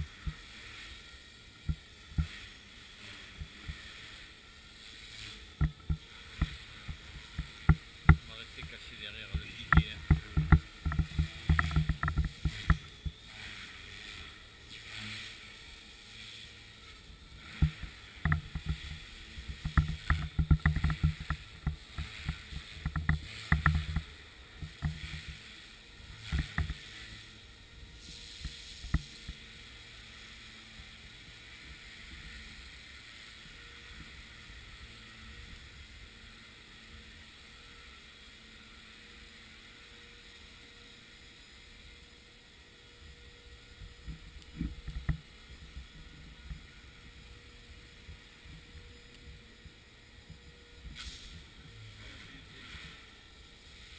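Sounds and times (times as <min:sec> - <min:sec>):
model helicopter rotor whirring: 0:00.0 - 0:53.9.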